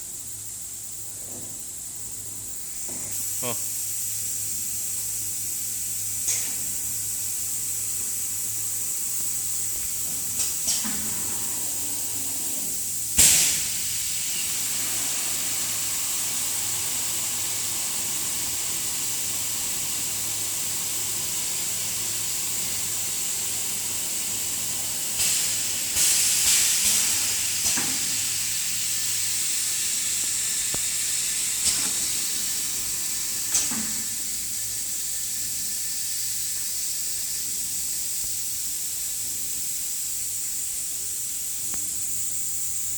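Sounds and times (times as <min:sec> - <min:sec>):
filling machine hiss and hum: 0:00.0 - 0:42.9.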